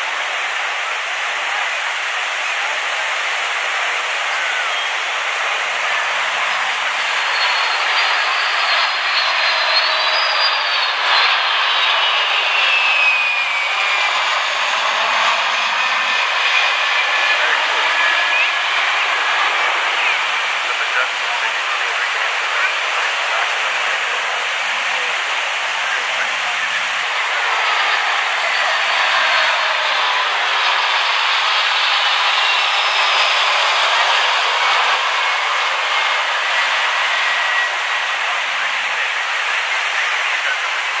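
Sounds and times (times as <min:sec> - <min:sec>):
faint high whine: 0:00.0 - 0:41.0
jet engines roaring past: 0:00.0 - 0:41.0.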